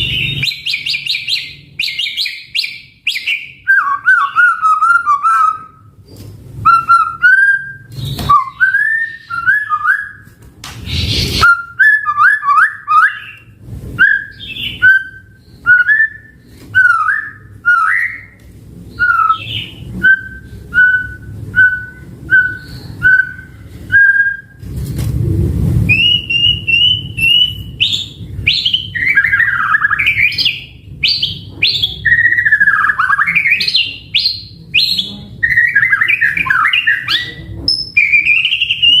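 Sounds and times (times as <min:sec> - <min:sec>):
bird singing whistled phrases: 0:00.0 - 0:05.8, 0:06.6 - 0:10.2, 0:10.9 - 0:13.4, 0:14.0 - 0:24.6, 0:25.9 - 0:39.0.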